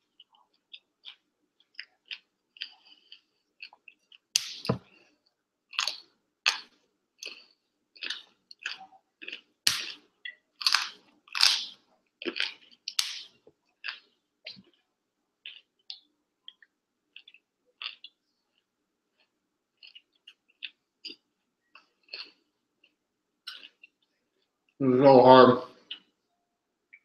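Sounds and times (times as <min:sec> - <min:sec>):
person chewing raw broccoli: 0:00.0 - 0:24.7.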